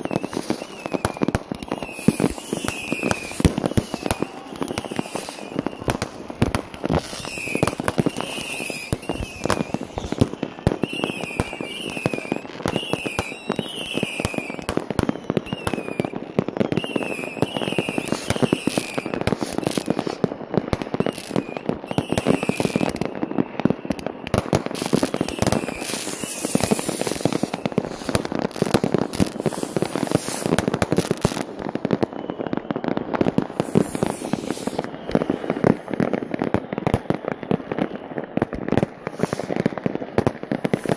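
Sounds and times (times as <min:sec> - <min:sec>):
fireworks bangs and crackling: 0:00.0 - 0:40.9
fireworks whistles: 0:00.0 - 0:40.9.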